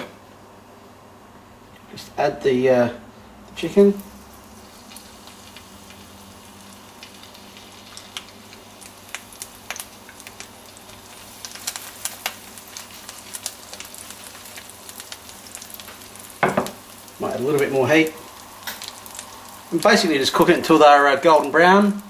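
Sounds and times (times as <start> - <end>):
frying sizzle with pops: 3.4 - 22.0.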